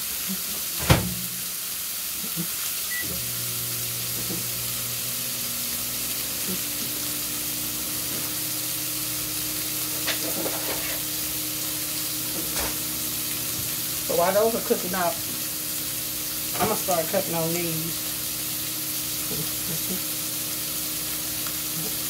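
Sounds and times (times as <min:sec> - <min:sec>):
meat sizzling in a frying pan: 0:00.0 - 0:22.0
microwave humming: 0:00.0 - 0:22.0.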